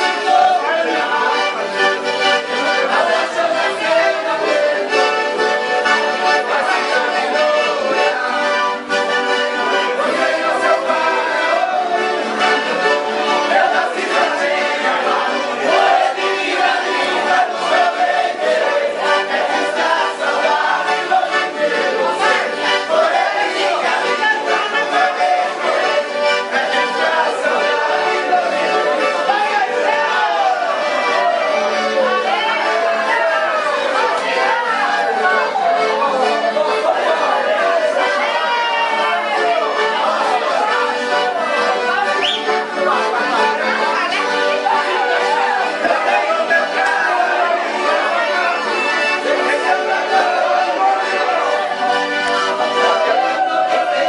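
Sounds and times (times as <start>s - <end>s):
accordion dance music: 0.0s - 54.0s.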